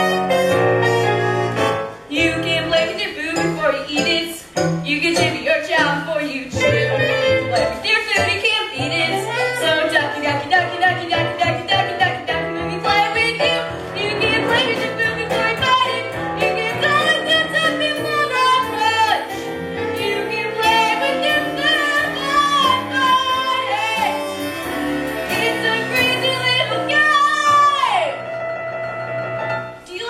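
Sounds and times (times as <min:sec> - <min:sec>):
instrumental accompaniment: 0:00.0 - 0:30.0.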